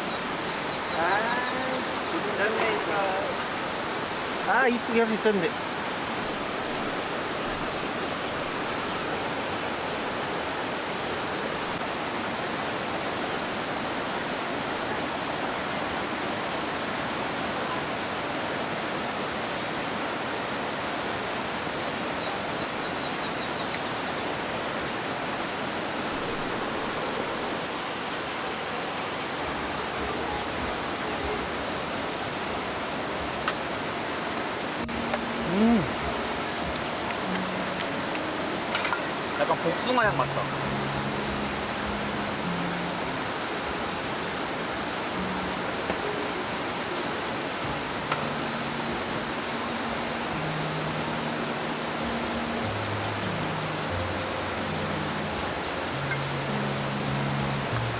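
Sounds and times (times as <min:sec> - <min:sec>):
stream water rushing: 0:00.0 - 0:57.9.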